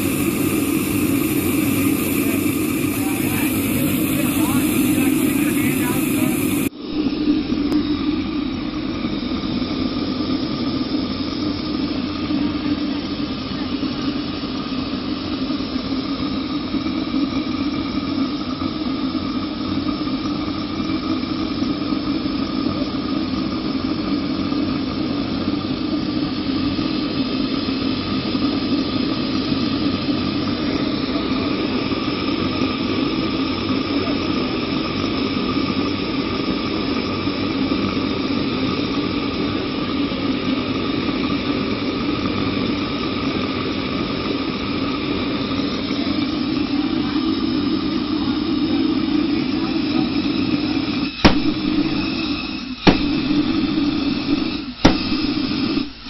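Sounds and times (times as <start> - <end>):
pulse jet engine buzzing drone: 0.0 - 56.0.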